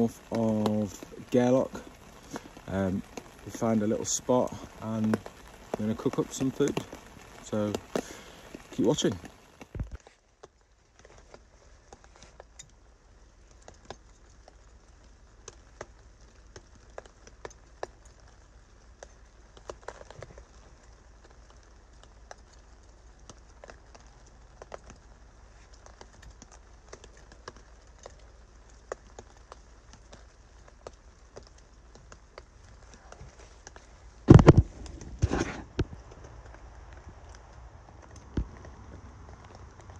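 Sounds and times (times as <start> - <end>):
light irregular ticks and taps: 0.0 - 39.9.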